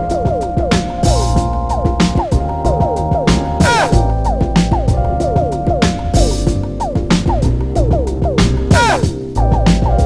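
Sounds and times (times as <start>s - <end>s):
deep bass: 0.0s - 10.0s
electronic drums: 0.0s - 10.0s.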